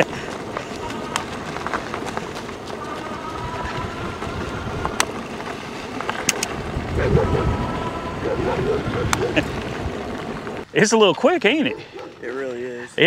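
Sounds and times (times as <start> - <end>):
wind noise: 0.0 - 10.6.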